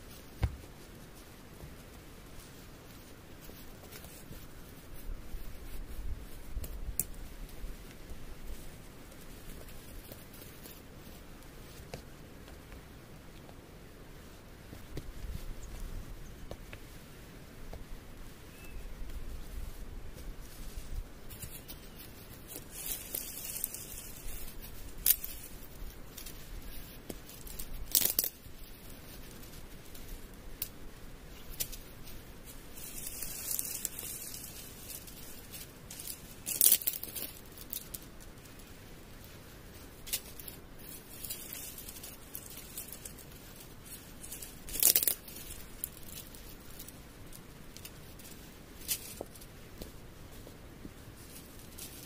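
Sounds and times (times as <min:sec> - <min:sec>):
dry leaves crunching and rustling: 0:00.0 - 0:12.0, 0:18.5 - 0:52.0.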